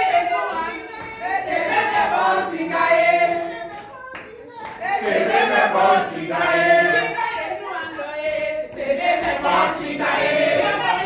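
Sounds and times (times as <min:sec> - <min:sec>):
group singing in chorus: 0:00.0 - 0:03.9, 0:04.6 - 0:11.0.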